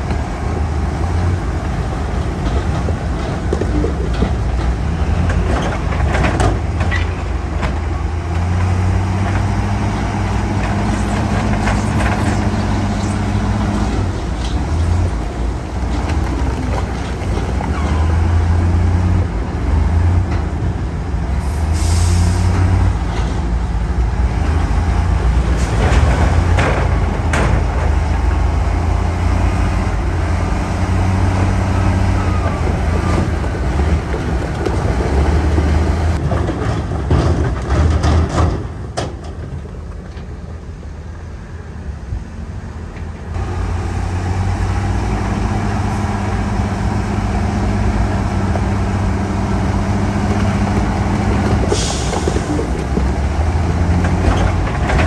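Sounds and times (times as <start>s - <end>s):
heavy diesel engines under load: 0.0s - 55.0s.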